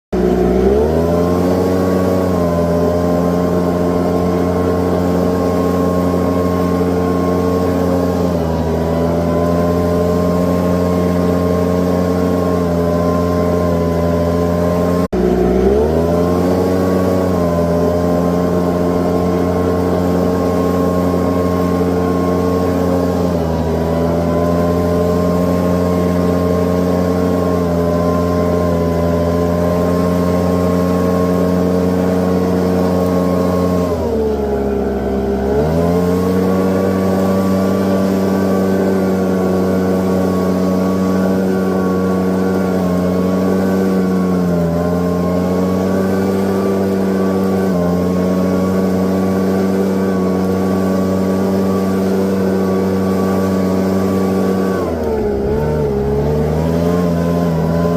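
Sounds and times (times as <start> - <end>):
leaf blower running: 0.1 - 57.9.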